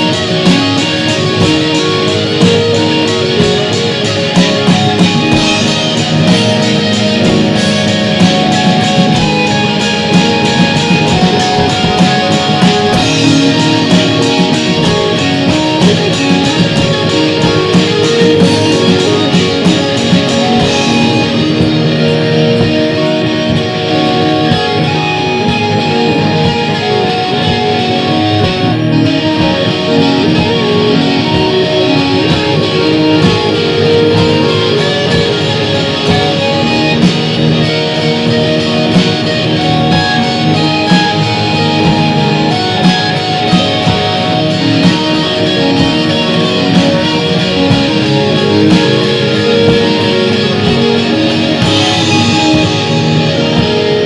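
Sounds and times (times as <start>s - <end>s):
drums: 0.0s - 54.0s
electric guitar: 0.0s - 54.0s
synth: 0.0s - 54.0s.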